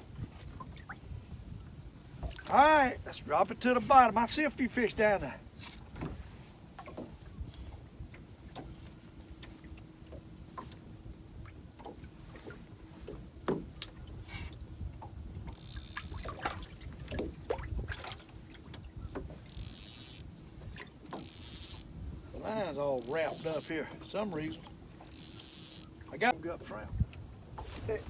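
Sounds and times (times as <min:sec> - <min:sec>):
water against a boat hull: 0:00.0 - 0:28.0
wind: 0:00.0 - 0:28.0.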